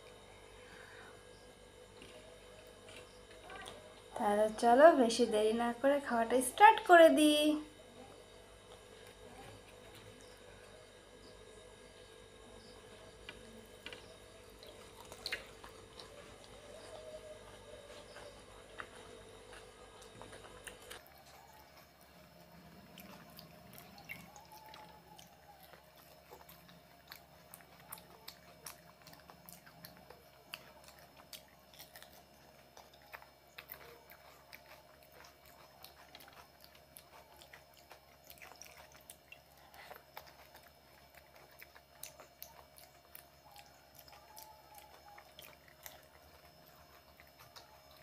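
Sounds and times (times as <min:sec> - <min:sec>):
chewing and crunching crisp shells: 0:00.0 - 0:04.5, 0:08.0 - 0:48.0
faint steady hum: 0:00.0 - 0:48.0.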